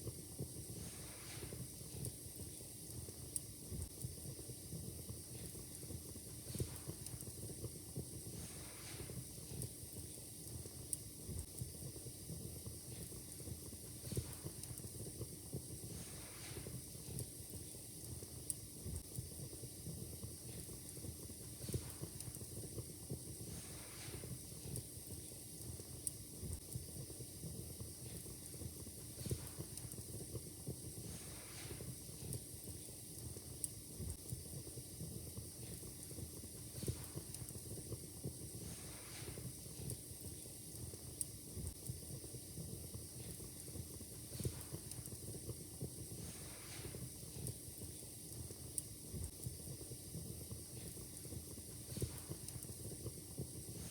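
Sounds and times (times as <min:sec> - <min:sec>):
low fire rumble and hiss: 0:00.0 - 0:53.9
wood fire crackling and popping: 0:00.0 - 0:53.9.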